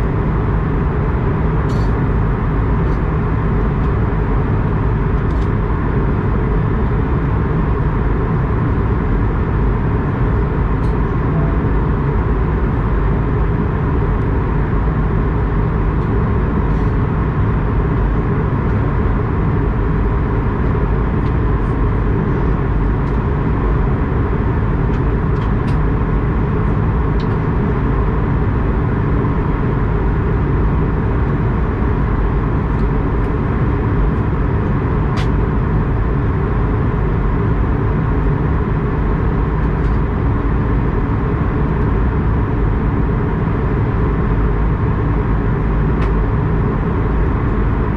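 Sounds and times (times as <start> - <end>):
airliner cabin hum: 0.0 - 47.9.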